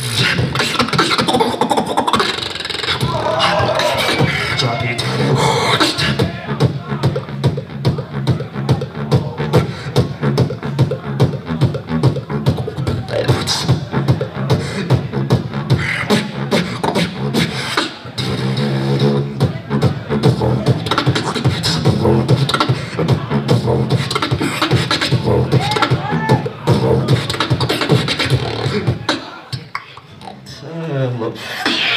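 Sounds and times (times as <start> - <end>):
beatboxing into a microphone: 0.0 - 31.9.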